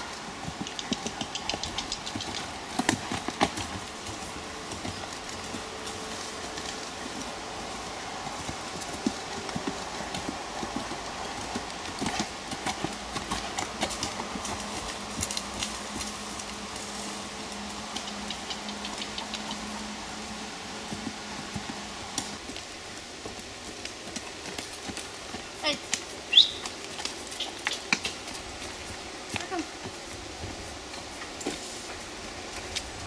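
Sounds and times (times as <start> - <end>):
horse hoofbeats on dirt: 0.0 - 33.0.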